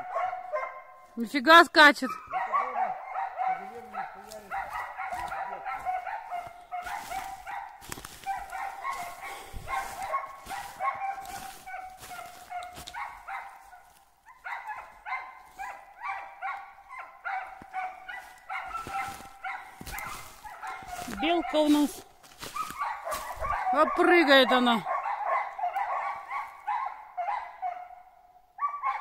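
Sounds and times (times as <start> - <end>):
dogs barking: 0.0 - 1.2, 1.9 - 29.0.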